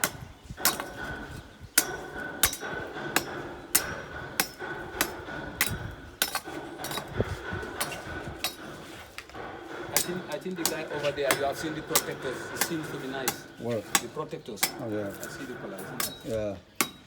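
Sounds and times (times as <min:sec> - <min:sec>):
hammer striking metal: 0:00.0 - 0:17.0.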